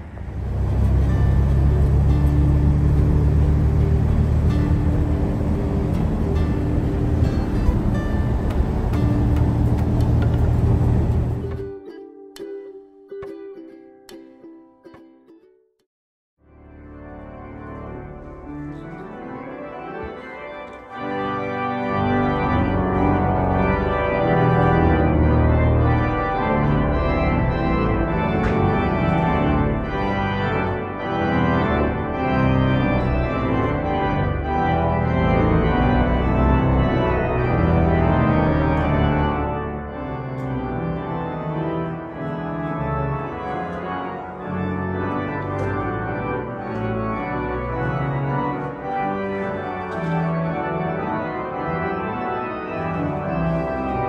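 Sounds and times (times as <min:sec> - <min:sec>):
pipe organ chords: 0:00.0 - 0:11.8, 0:16.5 - 0:54.0.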